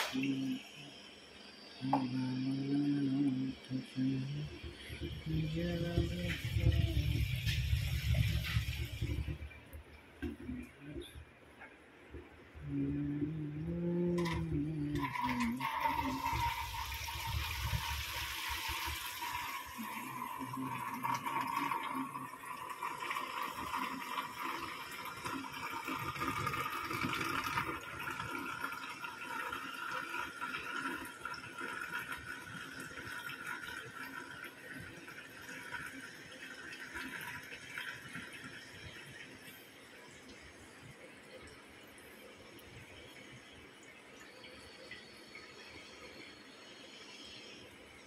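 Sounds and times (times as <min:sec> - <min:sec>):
water gurgling down sink drain: 0:00.0 - 0:48.0.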